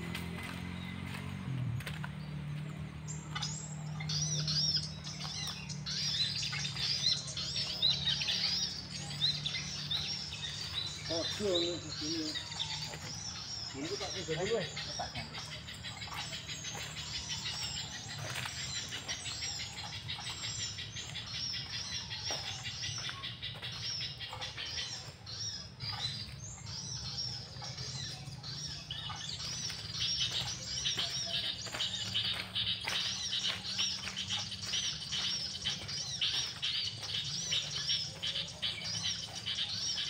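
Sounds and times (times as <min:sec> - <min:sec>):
recorded bird song chirps and trills: 0:00.0 - 0:40.0.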